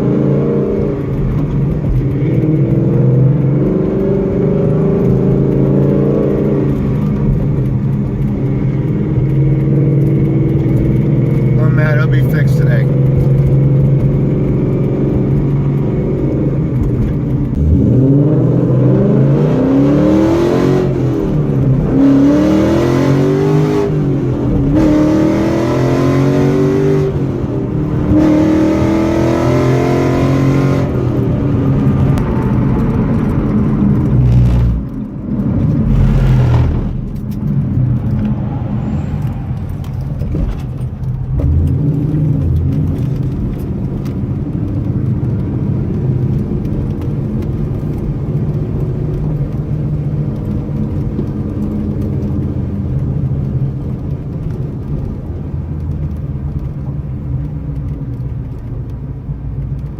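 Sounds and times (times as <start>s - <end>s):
car engine accelerating through upshifts: 0.0s - 58.8s.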